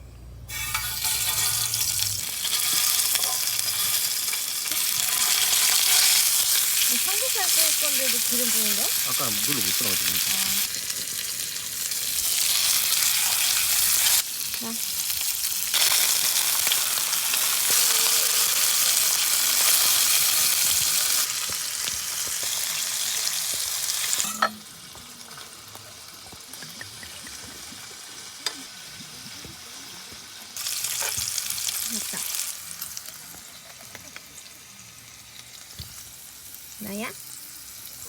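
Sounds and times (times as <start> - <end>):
meat sizzling in oil: 0.5 - 38.0.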